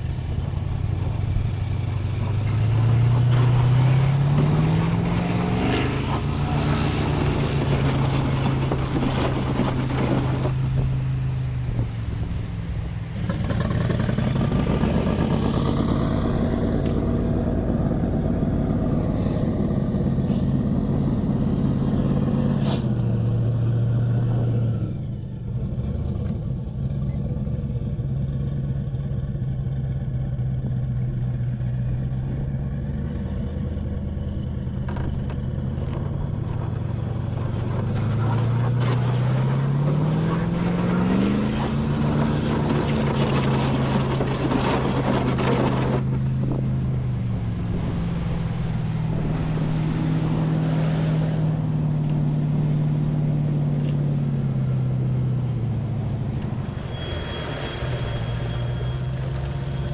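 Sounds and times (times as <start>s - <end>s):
airboat engine and propeller: 0.0s - 59.9s.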